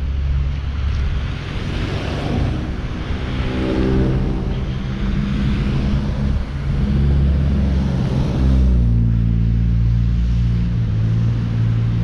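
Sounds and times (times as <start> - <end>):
large vehicle engine running: 0.0 - 12.0.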